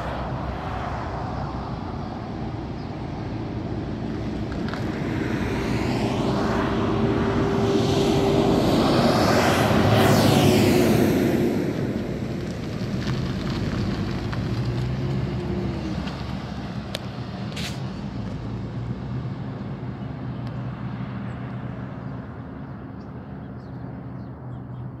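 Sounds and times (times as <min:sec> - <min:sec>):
pickup truck driving away: 0:00.0 - 0:22.5
passing truck engine: 0:00.0 - 0:25.0.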